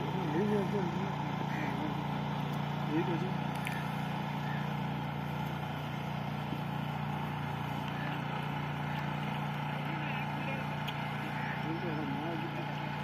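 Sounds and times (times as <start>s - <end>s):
distant engine droning: 0.0s - 13.0s
light outdoor hiss: 0.0s - 13.0s.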